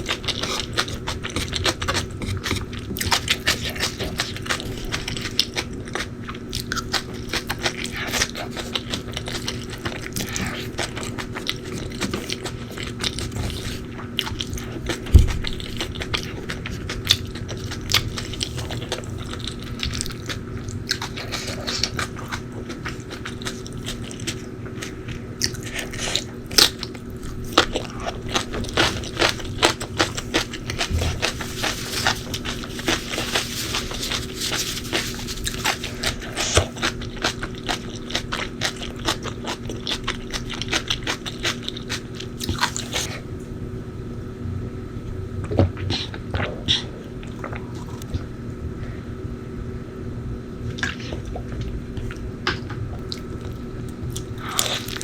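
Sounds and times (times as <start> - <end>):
chewing crunchy food: 0.0 - 43.2, 45.5 - 48.4, 50.6 - 55.0
faint steady hum: 0.0 - 55.0.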